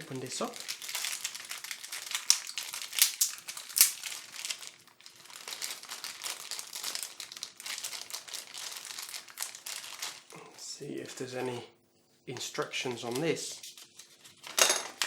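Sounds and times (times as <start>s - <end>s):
packaging crinkling and crackling: 0.0s - 10.4s, 12.9s - 15.0s.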